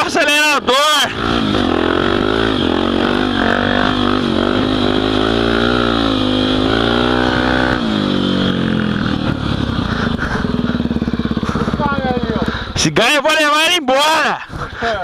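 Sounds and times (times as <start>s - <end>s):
motorcycle engine revving: 0.0s - 13.5s.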